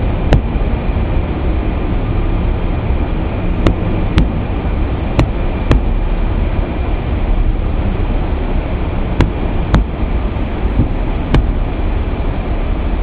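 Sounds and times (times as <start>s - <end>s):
train coaches rumbling: 0.0s - 13.0s.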